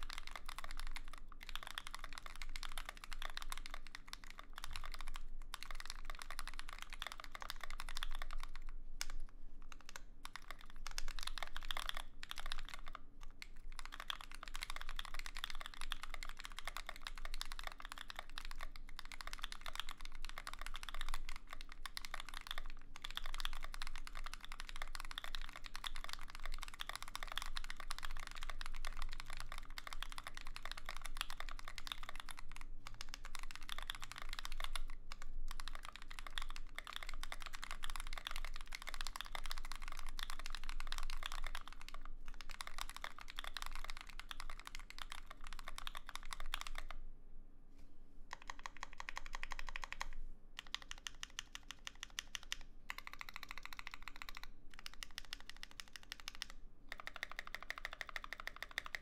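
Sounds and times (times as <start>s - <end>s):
mechanical keyboard typing: 0.0s - 47.0s, 48.3s - 59.0s.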